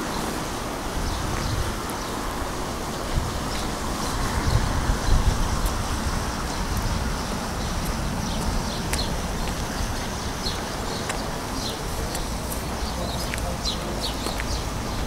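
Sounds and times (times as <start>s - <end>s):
wind rumble on microphone: 0.0s - 15.0s
small birds chirping: 2.9s - 15.0s.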